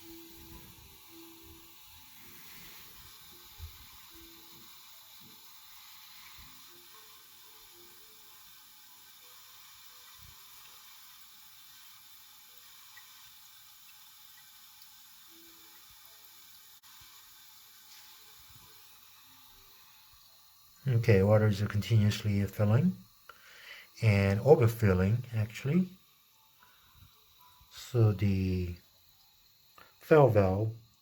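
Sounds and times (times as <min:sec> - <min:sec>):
toilet tank filling hiss: 0:00.0 - 0:31.0.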